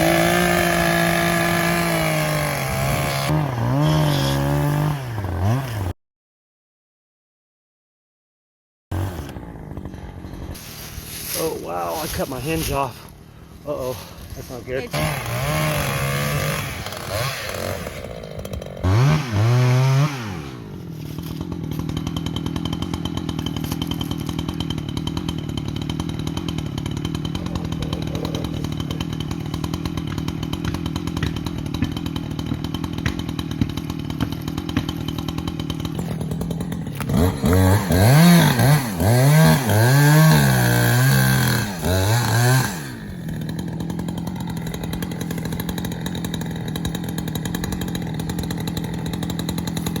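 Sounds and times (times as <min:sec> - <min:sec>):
chainsaw idling and revving: 0:00.0 - 0:06.0, 0:08.9 - 0:50.0.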